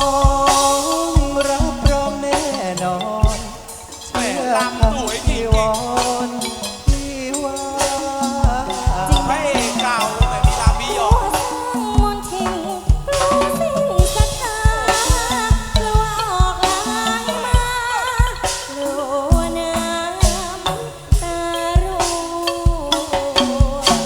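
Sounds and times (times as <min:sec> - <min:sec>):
ensemble playing wavering melody: 0:00.0 - 0:24.0
steady drum beats: 0:00.0 - 0:24.0.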